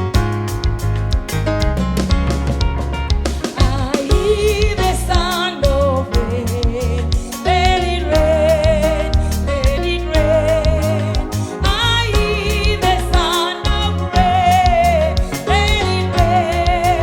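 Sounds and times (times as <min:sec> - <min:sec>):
gospel band with heavy bass: 0:00.0 - 0:17.0
steady drum beat: 0:00.0 - 0:17.0.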